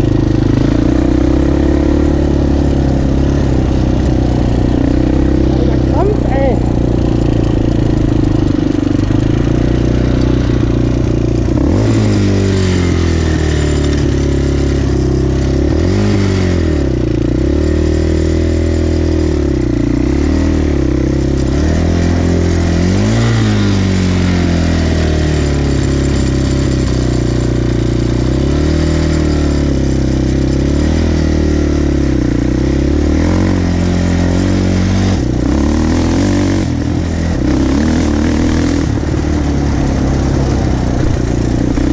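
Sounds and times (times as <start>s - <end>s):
quad bike engine revving: 0.0s - 41.9s.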